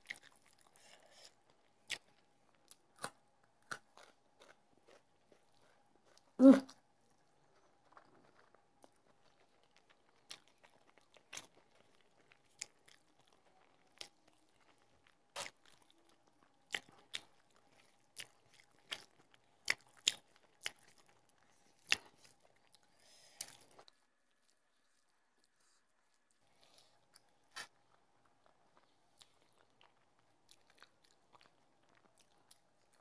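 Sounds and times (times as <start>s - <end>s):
person chewing with wet clicks: 0.0s - 33.0s.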